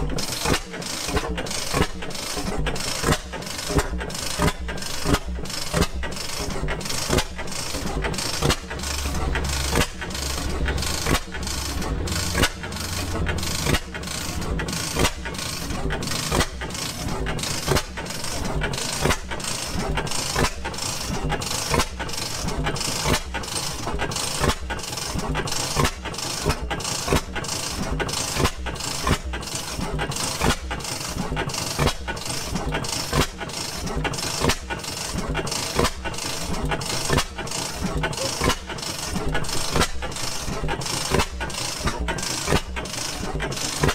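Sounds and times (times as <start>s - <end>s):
gas engine running: 0.0s - 43.9s.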